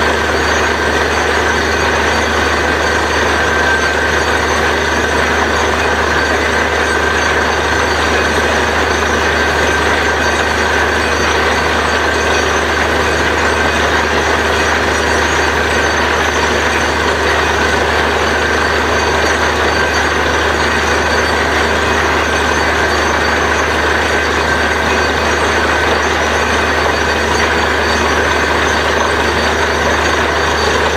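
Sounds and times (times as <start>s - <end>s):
drilling rig engine drone: 0.0s - 30.9s.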